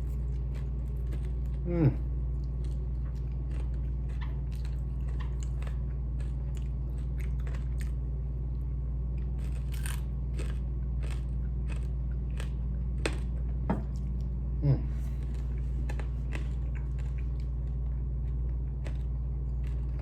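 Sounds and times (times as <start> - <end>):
crunchy chewing: 0.0 - 20.0
steady low hum: 0.0 - 20.0.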